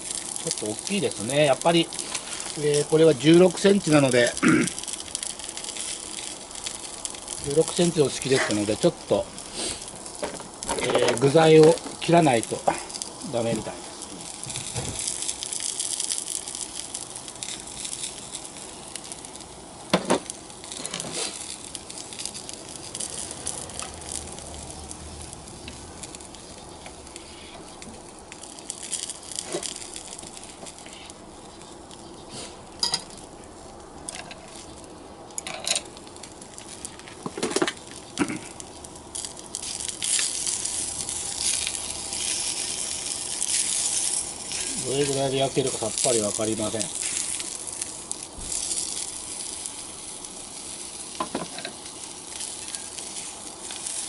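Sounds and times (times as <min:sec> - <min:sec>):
sausages sizzling in oil: 0:00.0 - 0:54.0.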